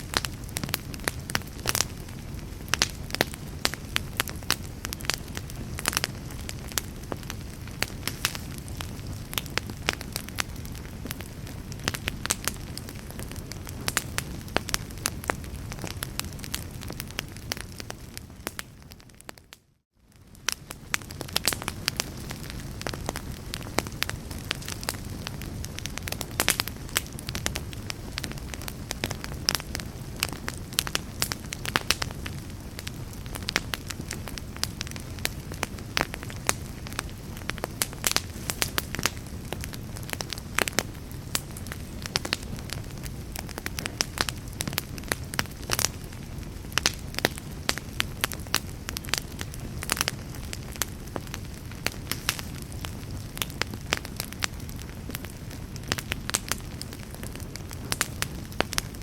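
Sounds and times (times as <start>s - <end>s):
log fire burning: 0.0s - 59.0s
wood crackling and popping: 0.0s - 59.0s.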